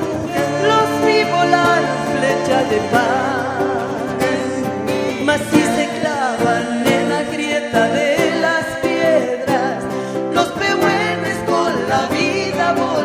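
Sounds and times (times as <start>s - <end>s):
person singing long notes: 0.0s - 13.0s.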